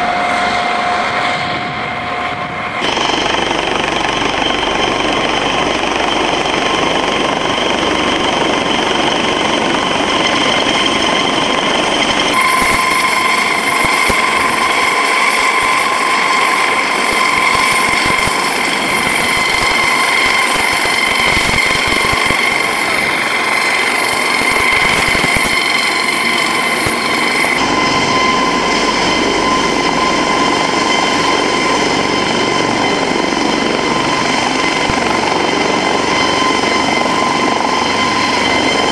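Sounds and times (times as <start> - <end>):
helicopter rotor beating: 0.0 - 38.9
helicopter turbine whine: 0.0 - 38.9.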